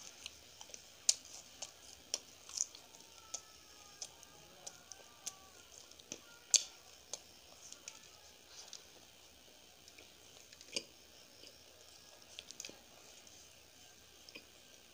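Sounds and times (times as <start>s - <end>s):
person chewing soft sweet: 0.0s - 14.9s.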